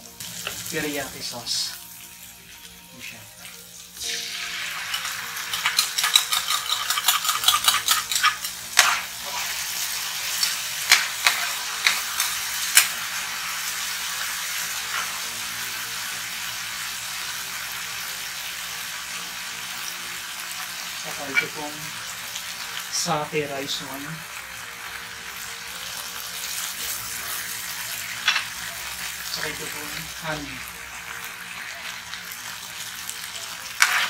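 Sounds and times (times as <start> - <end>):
sauce and onions sizzling in pan: 0.0 - 34.0.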